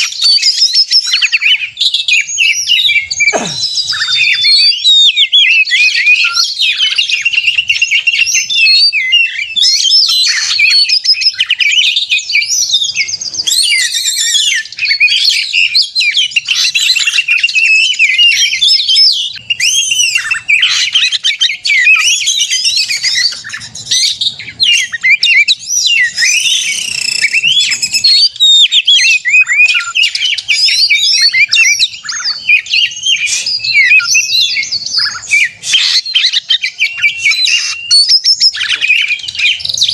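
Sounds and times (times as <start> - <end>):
songbird singing whistles and chirps: 0.0 - 39.9.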